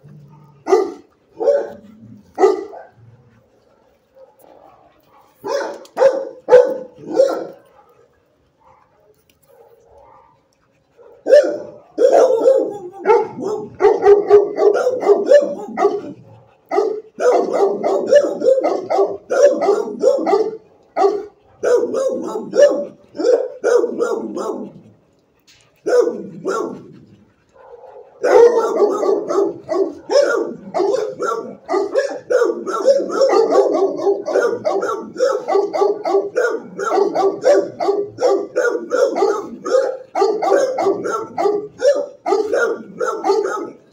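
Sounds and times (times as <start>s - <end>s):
dogs barking: 0.0s - 25.0s, 25.8s - 43.9s.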